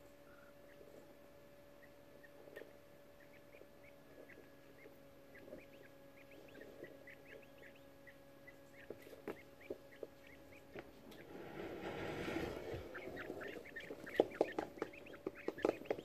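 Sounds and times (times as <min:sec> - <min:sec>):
faint steady hum: 0:00.0 - 0:16.0
quail chicks cheeping: 0:00.0 - 0:16.0.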